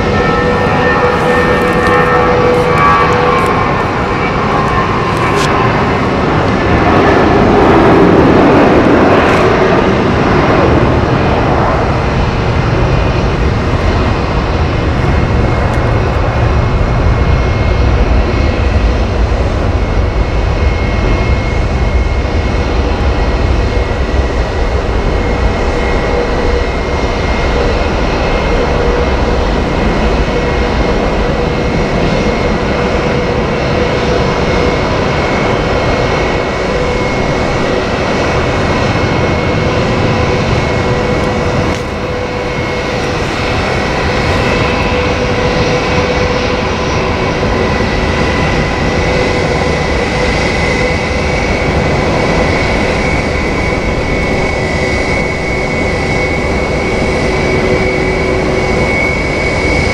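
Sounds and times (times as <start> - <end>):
faint engine whine: 0.0 - 59.9
jet engines heavy rumble: 0.0 - 59.9.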